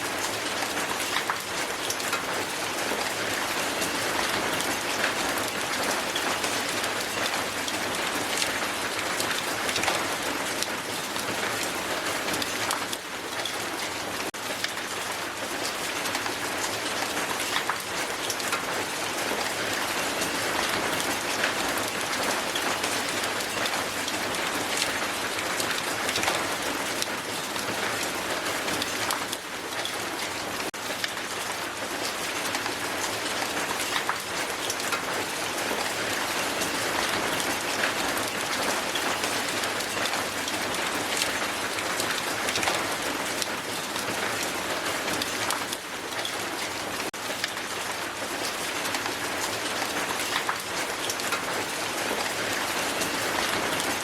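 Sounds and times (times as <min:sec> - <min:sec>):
hail falling hard: 0:00.0 - 0:54.0.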